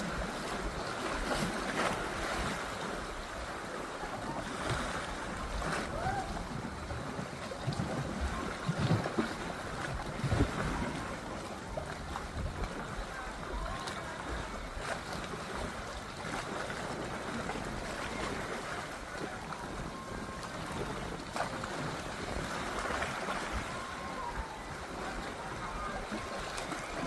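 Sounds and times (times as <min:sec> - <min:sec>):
wind and water rumble: 0:00.0 - 0:27.0.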